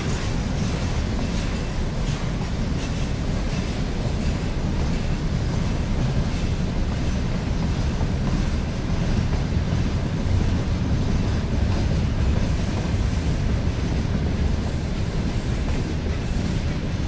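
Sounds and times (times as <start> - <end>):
freight train low rumble: 0.0 - 17.0.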